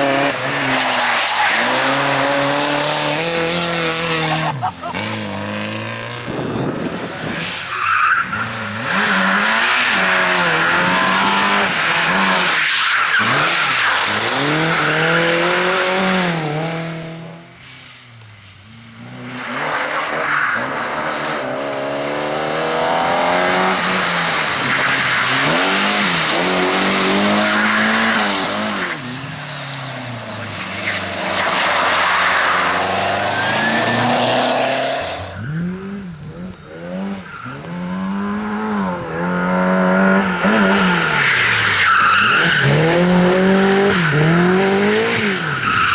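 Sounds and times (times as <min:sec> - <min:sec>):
race car engines revving: 0:00.0 - 0:45.9.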